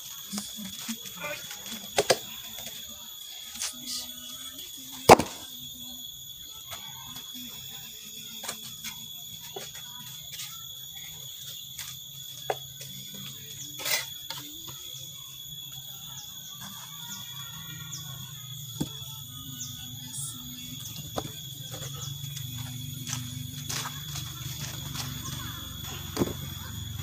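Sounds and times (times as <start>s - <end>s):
steady high-pitched drone: 0.0s - 27.0s.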